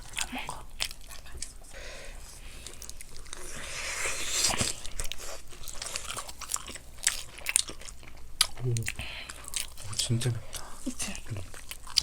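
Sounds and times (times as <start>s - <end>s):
chewing crunchy fried chicken: 0.0s - 12.0s.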